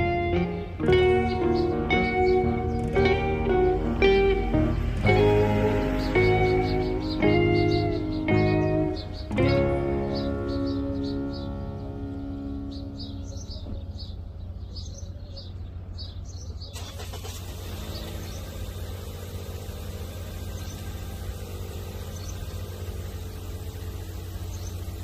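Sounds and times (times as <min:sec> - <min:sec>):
bird chirping: 0:00.0 - 0:25.0
road traffic rumble: 0:00.0 - 0:25.0.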